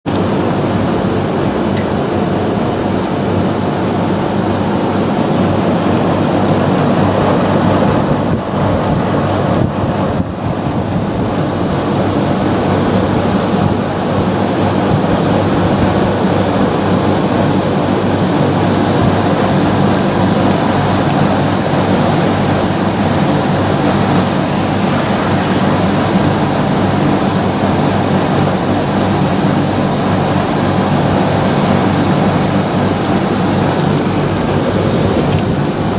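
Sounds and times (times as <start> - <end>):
heat pump fan noise: 0.0 - 35.9
compressor hum: 0.1 - 35.9.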